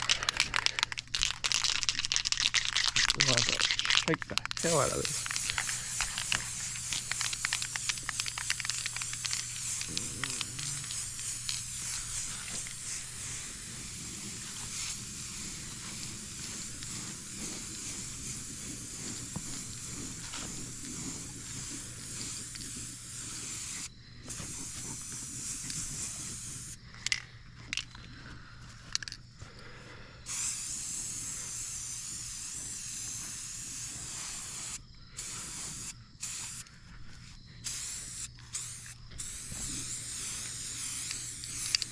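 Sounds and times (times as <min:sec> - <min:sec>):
spray paint can hissing: 0:00.0 - 0:27.2, 0:30.3 - 0:36.7, 0:37.6 - 0:41.9.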